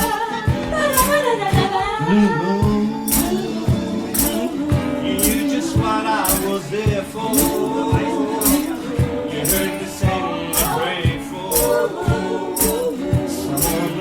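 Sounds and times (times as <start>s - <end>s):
vocal trio singing in harmony: 0.0s - 14.0s
hand percussion jingling: 0.9s - 1.4s, 3.1s - 14.0s.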